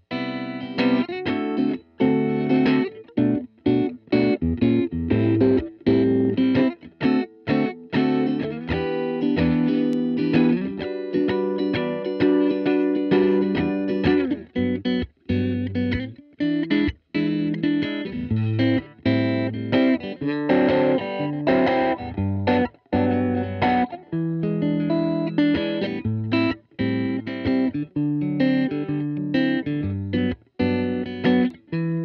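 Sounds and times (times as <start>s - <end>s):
electric guitar riff: 0.0s - 32.0s.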